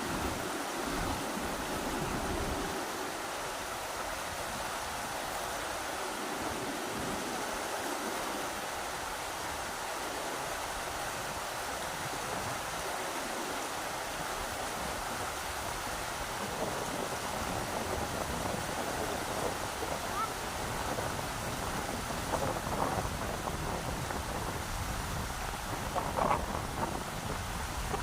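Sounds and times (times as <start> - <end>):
river water rushing: 0.0 - 28.0
wind buffeting: 0.0 - 28.0.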